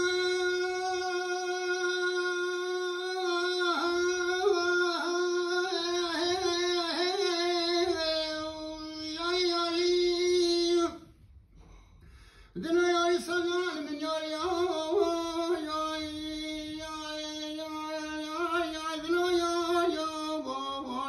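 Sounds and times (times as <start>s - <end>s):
person singing unaccompanied: 0.0s - 11.0s, 12.6s - 21.0s.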